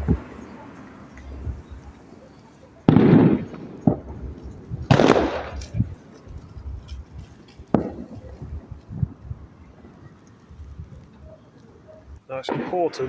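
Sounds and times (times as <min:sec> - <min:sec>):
fireworks banging: 0:00.0 - 0:13.0
fireworks crack: 0:00.0 - 0:13.0
small firework pops: 0:00.0 - 0:13.0.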